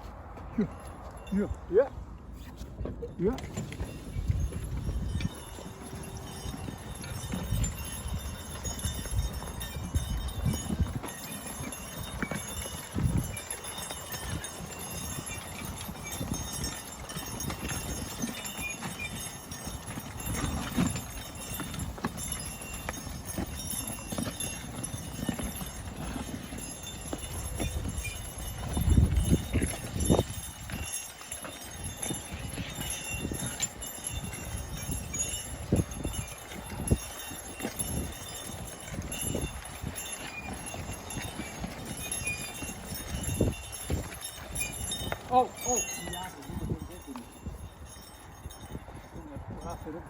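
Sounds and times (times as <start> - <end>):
horse hooves thudding: 0.0 - 50.0.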